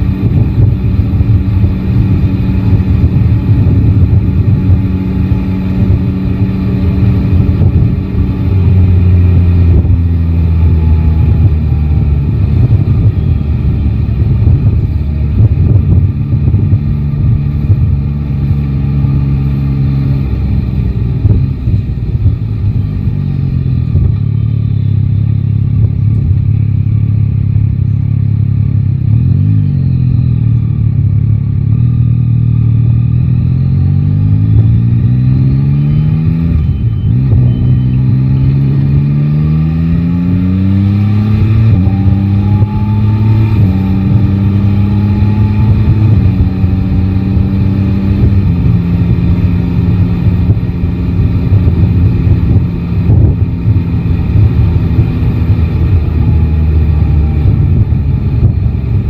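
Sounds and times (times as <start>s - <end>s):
gear changes: 0.0s - 59.0s
motorcycle engine revving: 0.0s - 59.0s.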